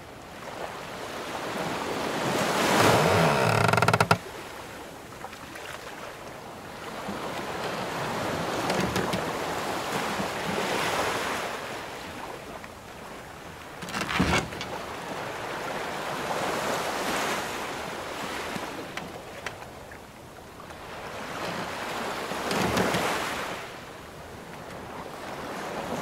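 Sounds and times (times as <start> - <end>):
ocean waves against a wooden ship: 0.0 - 26.0.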